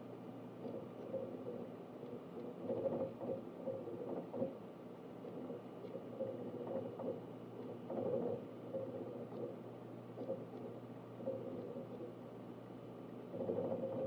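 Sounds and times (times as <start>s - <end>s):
fan and drive hum: 0.0s - 14.0s
hard drive seek chatter: 0.4s - 14.0s.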